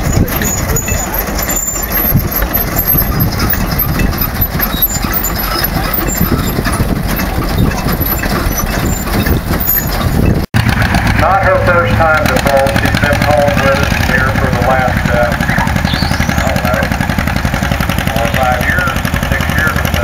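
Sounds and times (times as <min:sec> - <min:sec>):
engine running: 0:00.0 - 0:20.0
threshing machine clattering: 0:00.0 - 0:20.0.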